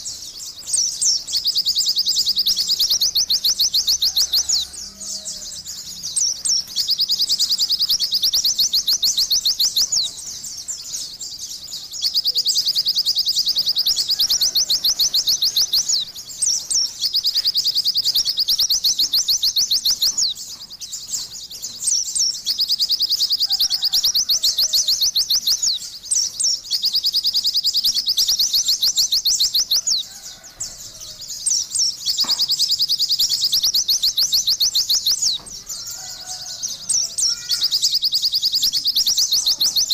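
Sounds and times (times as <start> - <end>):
bird singing chirping trills: 0.0 - 39.9.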